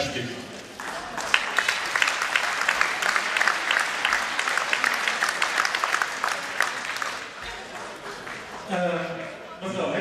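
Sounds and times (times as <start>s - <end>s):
crowd applauding: 0.6s - 9.4s.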